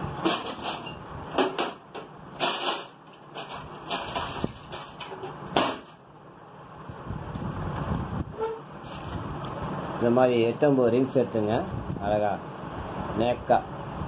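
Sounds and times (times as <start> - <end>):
low rumble of vehicles: 0.0 - 14.0.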